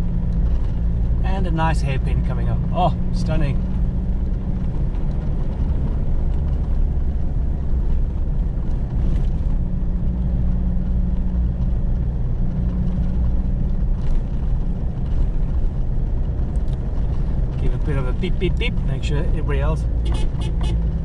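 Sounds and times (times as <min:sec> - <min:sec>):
road noise: 0:00.0 - 0:21.0
vehicle engine drone under load: 0:00.0 - 0:21.0.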